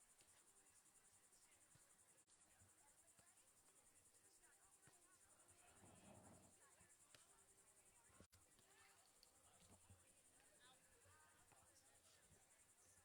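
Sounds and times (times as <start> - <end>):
faint high-pitched rapid pulsing: 0.0 - 13.0
soft muffled noise: 0.0 - 13.0.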